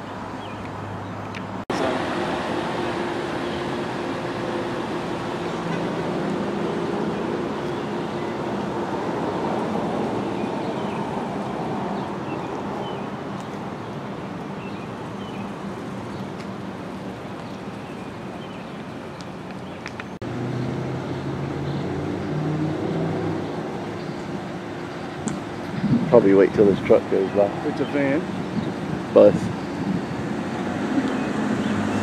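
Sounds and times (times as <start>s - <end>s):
passing cars: 0.0s - 32.0s
loud engine hum: 1.6s - 18.6s, 20.2s - 32.0s.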